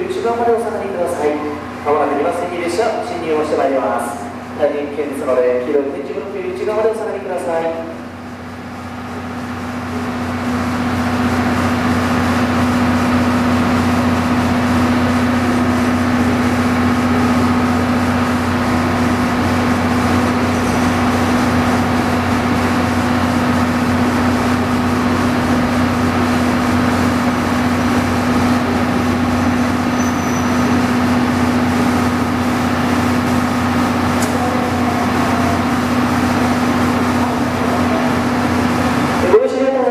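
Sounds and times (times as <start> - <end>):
diesel train engines humming: 0.0 - 39.9.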